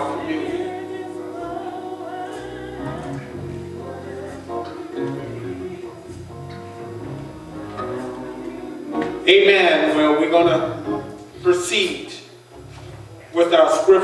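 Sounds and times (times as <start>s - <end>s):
soft church music chords: 0.0s - 14.0s.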